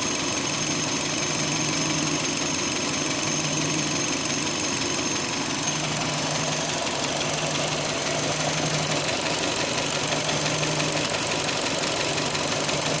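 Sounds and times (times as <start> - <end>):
car engine idling: 0.0 - 13.0
fast even engine ticking: 0.0 - 13.0.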